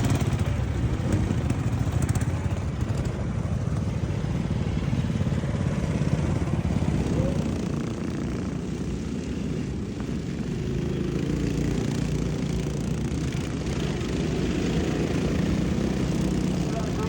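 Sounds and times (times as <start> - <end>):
lawnmower engines running: 0.0 - 17.0.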